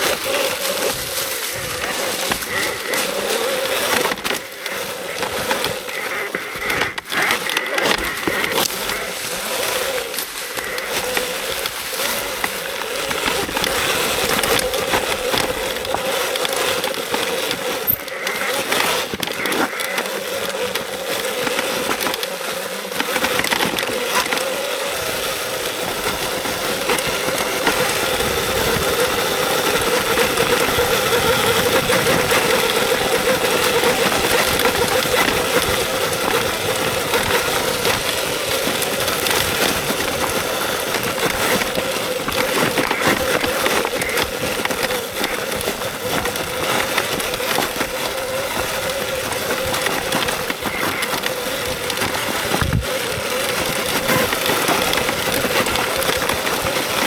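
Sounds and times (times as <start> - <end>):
electric motor whine: 0.0 - 57.0
tyre and suspension rush: 0.0 - 57.0.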